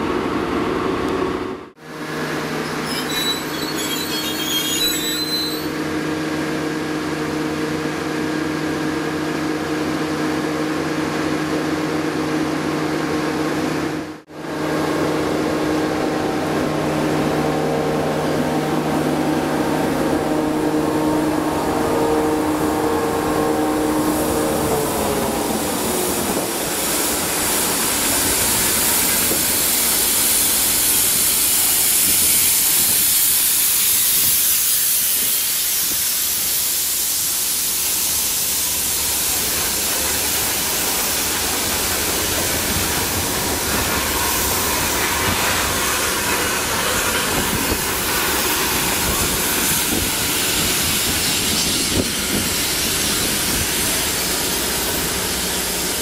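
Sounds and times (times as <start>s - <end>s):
low train rumble: 0.0s - 56.0s
rail grinding hiss: 1.8s - 11.1s, 14.4s - 56.0s.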